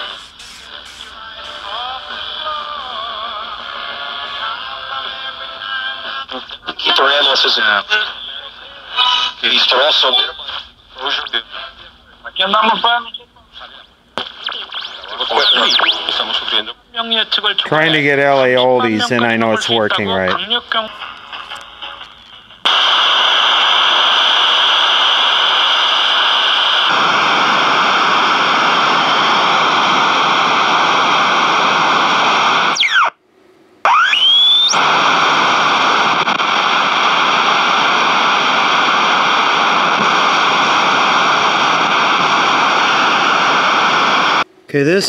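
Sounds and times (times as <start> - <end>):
radio static hiss: 0.0 - 33.1, 33.9 - 45.0.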